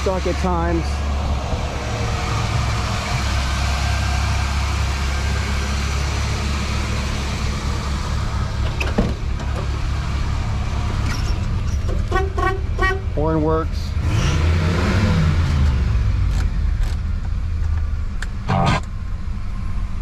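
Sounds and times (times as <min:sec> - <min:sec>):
car engine idling: 0:00.0 - 0:14.1, 0:15.5 - 0:20.0.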